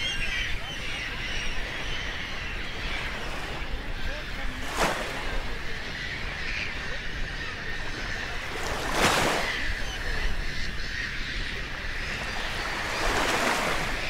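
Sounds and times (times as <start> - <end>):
rushing wind and water: 0.0 - 14.0.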